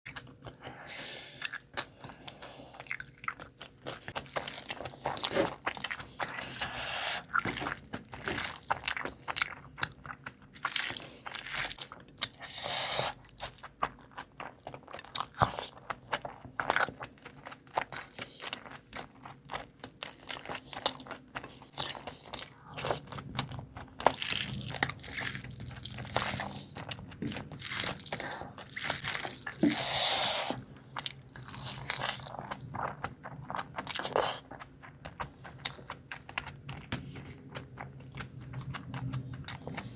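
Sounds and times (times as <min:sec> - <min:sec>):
crunchy eating and chewing: 0:00.1 - 0:39.9.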